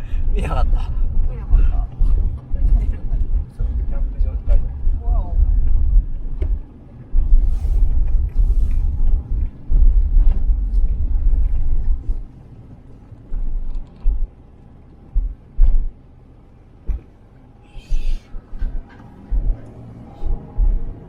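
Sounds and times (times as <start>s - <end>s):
short low thumps: 0.0s - 14.4s, 15.0s - 16.0s, 16.8s - 21.0s
car rumbling while moving: 0.0s - 21.0s.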